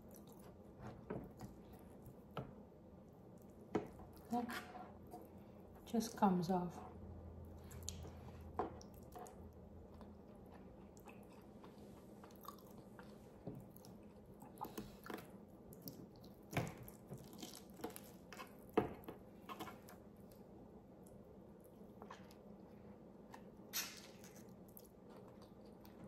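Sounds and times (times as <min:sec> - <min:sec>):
soft chewing: 0:00.0 - 0:06.2, 0:06.8 - 0:26.0.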